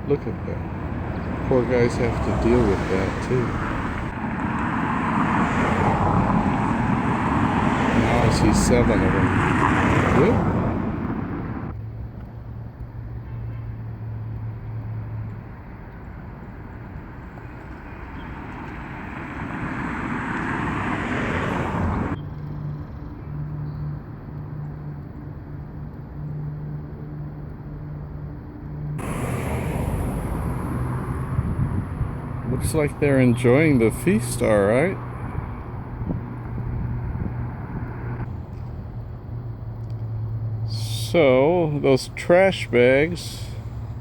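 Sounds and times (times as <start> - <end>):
passing cars rushing: 0.0 - 11.8, 13.9 - 44.0
low engine hum: 0.0 - 13.2, 13.8 - 44.0.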